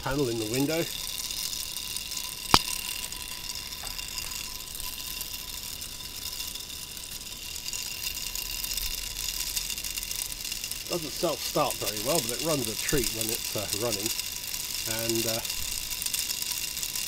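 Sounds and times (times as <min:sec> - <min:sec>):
small motor whirring with whine: 0:00.0 - 0:17.0.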